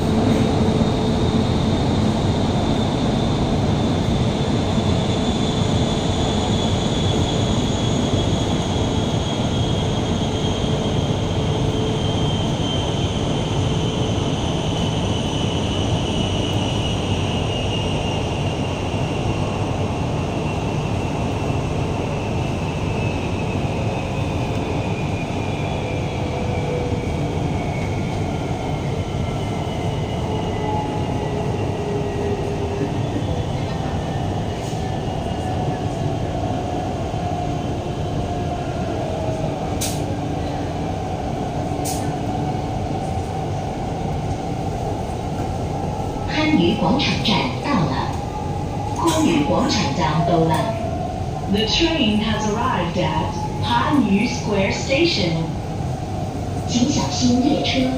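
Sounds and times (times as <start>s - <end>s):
train rumbling on track: 0.0s - 57.9s.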